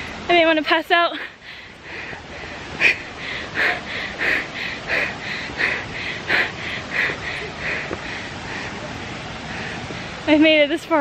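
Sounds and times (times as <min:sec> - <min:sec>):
woman panting hard: 0:01.1 - 0:10.0.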